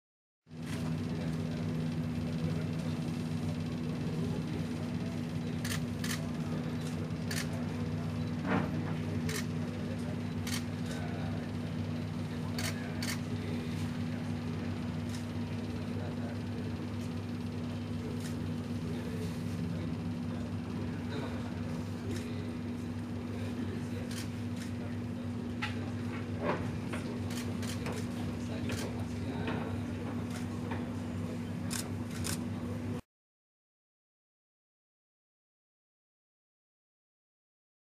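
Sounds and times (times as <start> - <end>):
low mechanical hum: 0.5 - 33.0.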